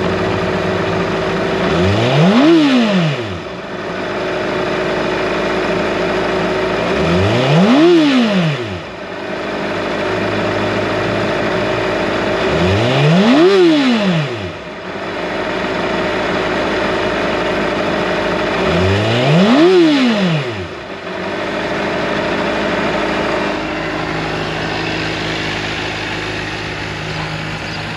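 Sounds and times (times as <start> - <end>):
motorcycle engine idling and revving: 0.0 - 27.9.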